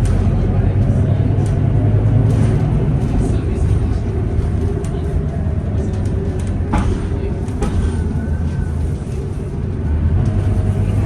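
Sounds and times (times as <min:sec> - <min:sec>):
bus engine drone: 0:00.0 - 0:11.0
rattles and clicks: 0:00.0 - 0:11.0.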